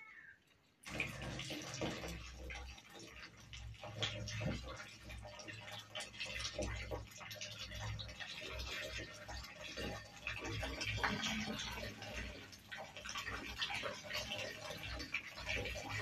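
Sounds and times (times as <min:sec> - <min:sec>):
milk pouring and splashing: 0:00.0 - 0:16.0.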